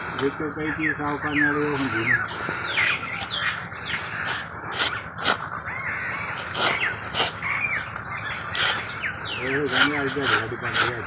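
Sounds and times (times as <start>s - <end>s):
harsh bird calls: 0.0s - 11.0s.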